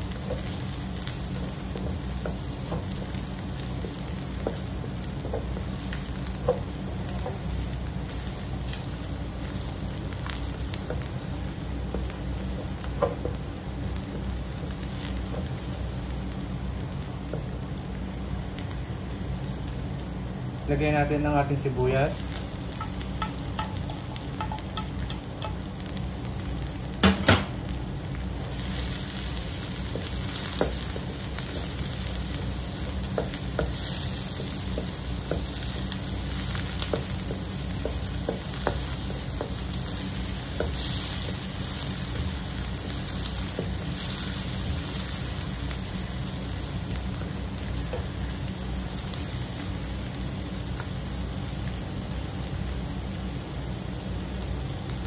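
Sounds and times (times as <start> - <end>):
onion sizzling in hot oil: 0.0 - 55.0.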